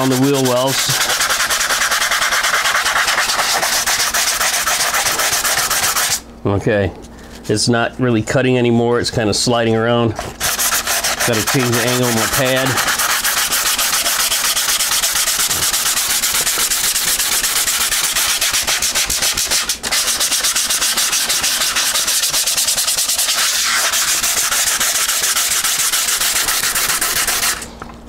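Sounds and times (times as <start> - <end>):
hand sanding strokes: 0.0 - 6.2, 10.2 - 27.7.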